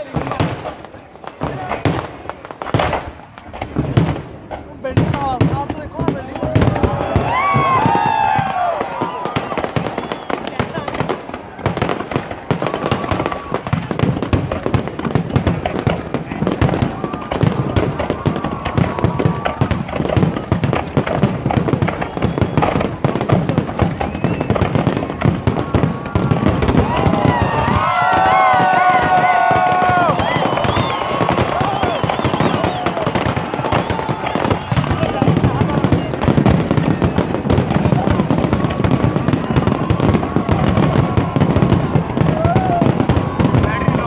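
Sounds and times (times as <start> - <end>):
crowd voices: 0.0 - 44.0
fireworks bangs and crackles: 0.0 - 44.0.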